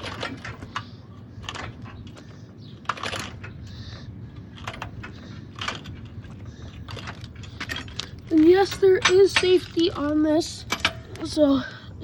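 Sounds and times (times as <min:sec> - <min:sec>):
hydraulic jack clicking and clanking: 0:00.0 - 0:11.5.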